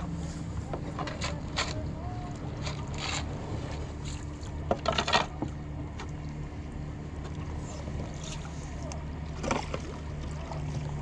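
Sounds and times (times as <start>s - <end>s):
paddles splashing in water: 0.0s - 11.0s.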